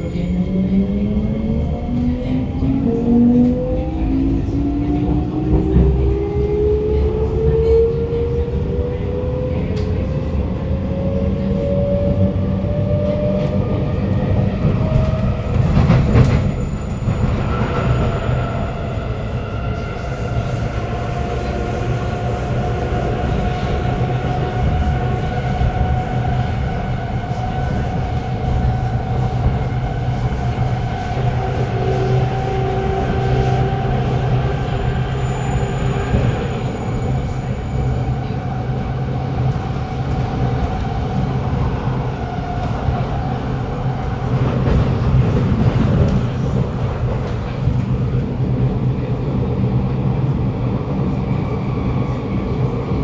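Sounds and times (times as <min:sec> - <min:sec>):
rumble of train wheels on rail: 0:00.0 - 0:53.0.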